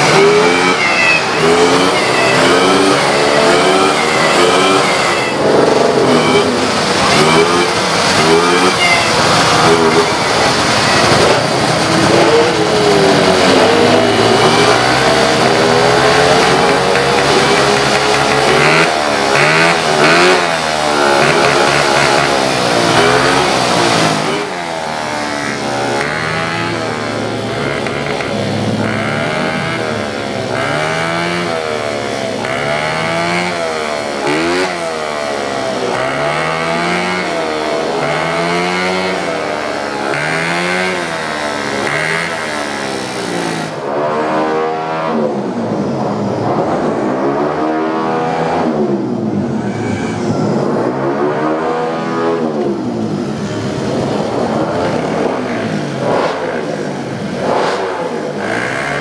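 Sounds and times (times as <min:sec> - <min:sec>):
scooter engine revving: 0:00.0 - 0:59.0.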